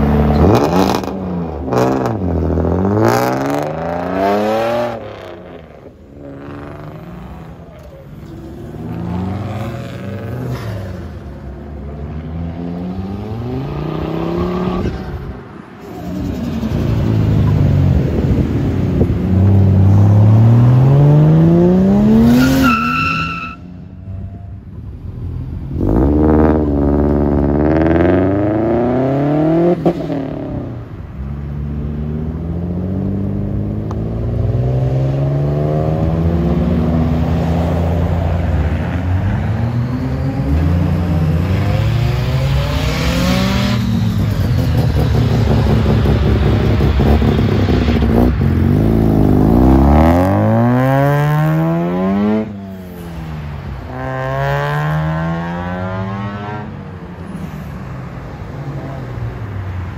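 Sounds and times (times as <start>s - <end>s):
cars accelerating and revving: 0.0s - 59.9s.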